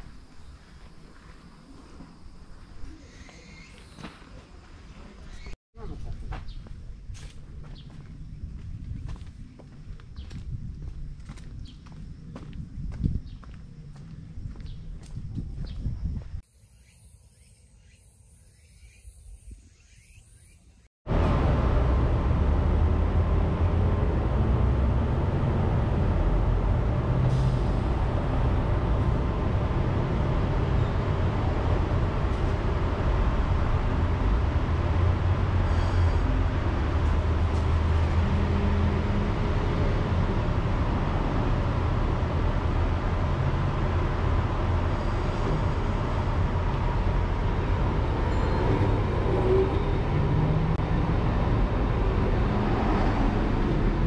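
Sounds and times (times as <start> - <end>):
tram rumble and hum: 0.0 - 16.4, 21.1 - 54.0.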